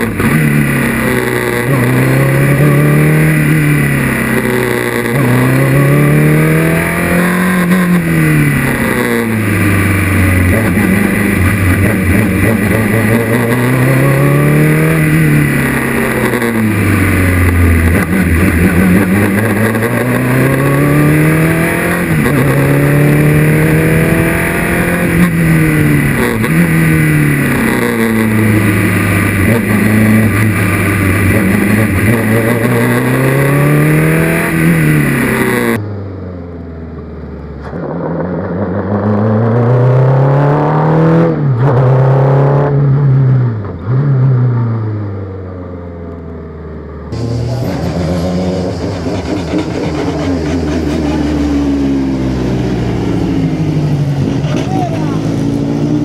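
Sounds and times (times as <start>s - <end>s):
racing car engine revving: 0.0s - 35.8s, 37.6s - 45.1s, 47.1s - 56.0s.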